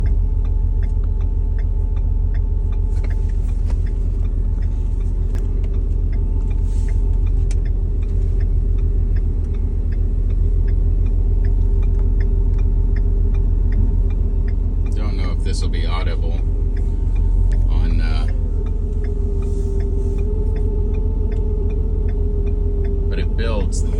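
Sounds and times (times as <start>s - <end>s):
diesel engine idling: 0.0s - 23.9s
light even ticking: 0.0s - 23.9s.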